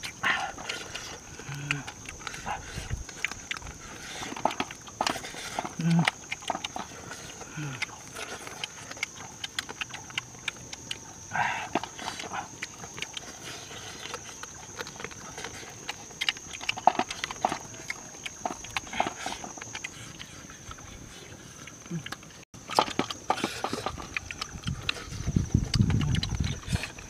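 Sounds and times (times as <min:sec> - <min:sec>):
night insects droning: 0:00.0 - 0:27.0
wet chewing and lip-smacking: 0:00.0 - 0:27.0.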